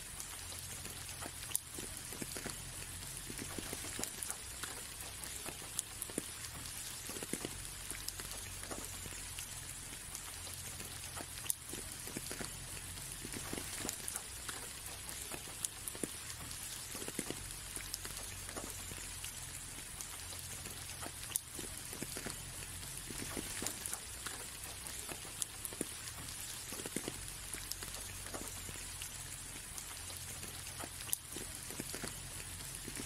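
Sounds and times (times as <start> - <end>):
light rain on a window: 0.0 - 33.0
raindrops tapping: 0.0 - 33.0.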